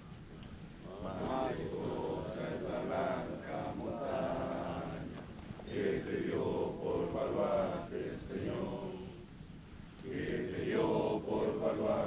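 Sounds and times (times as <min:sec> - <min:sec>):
group singing in unison: 0:00.9 - 0:09.3, 0:10.0 - 0:12.0.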